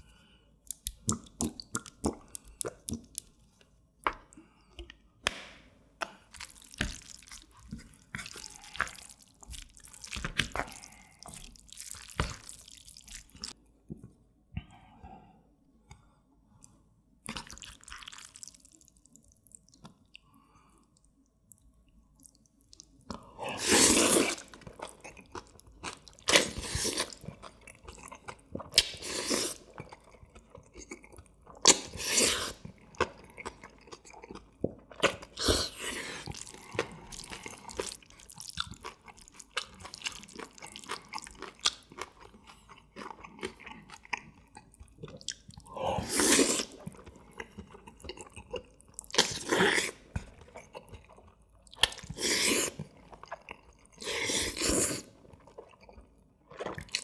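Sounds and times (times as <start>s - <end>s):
wet chewing: 0.7s - 3.6s, 6.0s - 13.6s, 17.3s - 57.0s.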